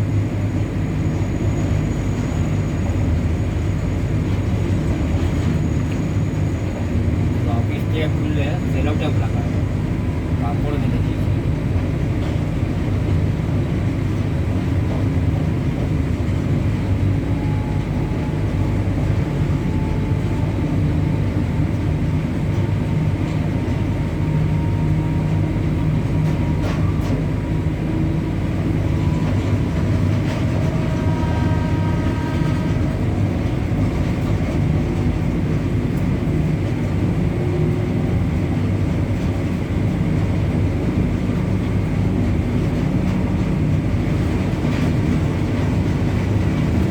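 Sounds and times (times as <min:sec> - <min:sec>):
electric locomotive rumbling: 0:00.0 - 0:46.9.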